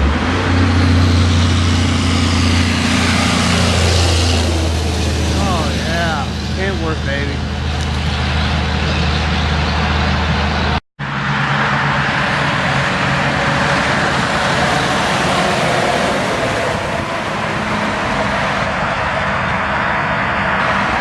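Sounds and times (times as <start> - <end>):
heavy vehicle engine droning: 0.0 - 21.0
passing traffic with tyre hiss: 0.0 - 21.0.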